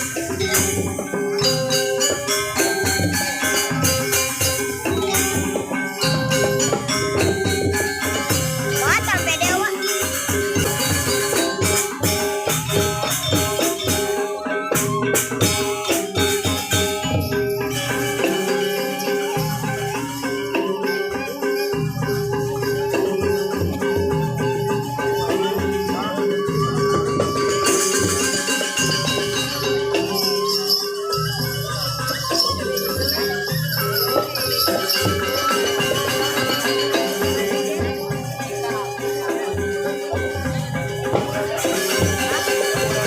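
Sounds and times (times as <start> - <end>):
bronze metallophones: 0.0 - 43.0
drums: 0.0 - 43.0
jingling cymbals: 0.0 - 43.0
ringing metal keyed instruments: 0.0 - 43.0.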